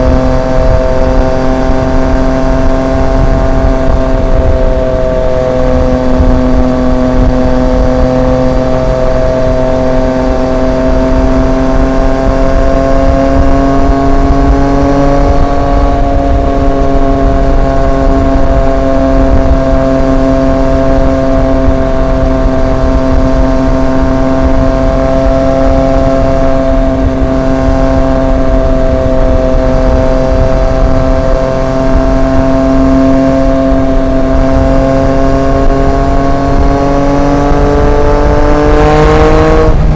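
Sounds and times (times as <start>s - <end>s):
motorcycle engine cruising: 0.0s - 39.9s
road rumble: 0.0s - 39.9s
wind noise: 0.0s - 39.9s.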